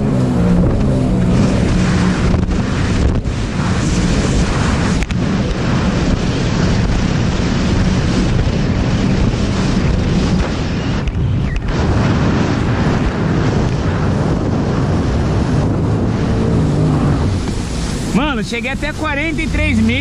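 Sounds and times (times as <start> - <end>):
jet ski engine at full throttle: 0.0 - 20.0
rush of spray and water: 0.0 - 20.0
wind buffeting microphone: 0.0 - 20.0.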